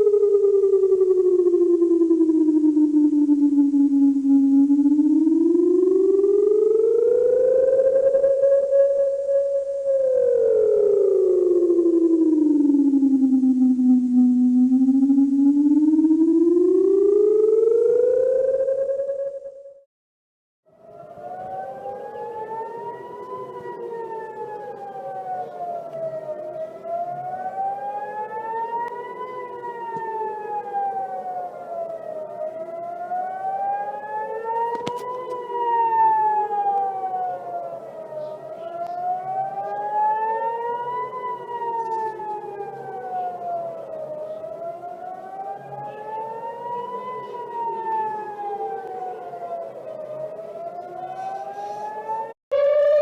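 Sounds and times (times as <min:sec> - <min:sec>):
second siren tone sweeping: 0:00.0 - 0:19.9, 0:20.7 - 0:53.0
warning siren wailing: 0:00.0 - 0:19.9, 0:20.7 - 0:53.0.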